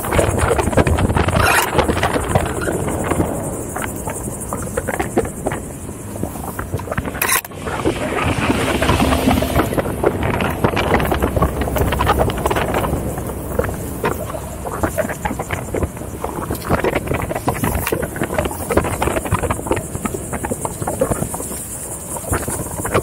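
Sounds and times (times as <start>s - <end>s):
clicks and knocks from rough ground: 0.0s - 23.0s
wheel rumbling over dirt trail: 0.0s - 23.0s
wind buffeting microphone: 0.0s - 23.0s.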